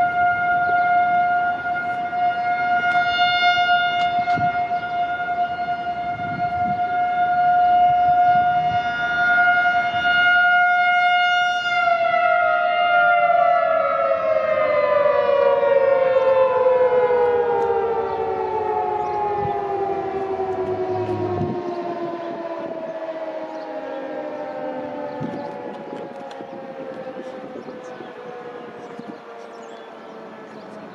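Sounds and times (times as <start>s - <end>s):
outdoor warning siren steady tone: 0.0s - 30.9s.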